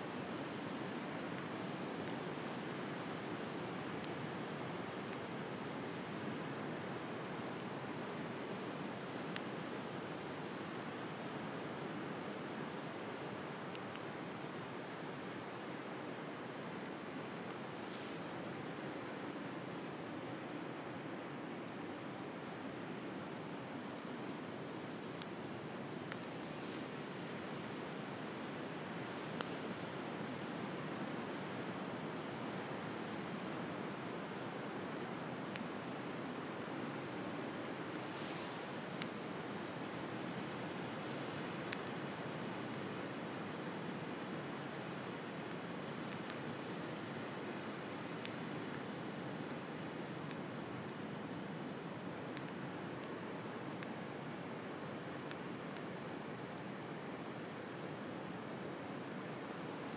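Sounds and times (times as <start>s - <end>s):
wood fire crackling: 0.0s - 58.4s.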